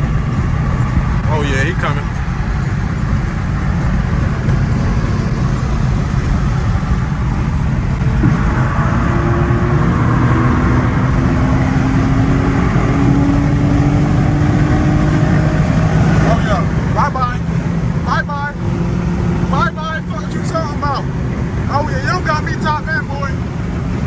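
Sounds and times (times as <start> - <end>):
car engine accelerating: 0.0 - 24.0
road and wind noise: 0.0 - 24.0.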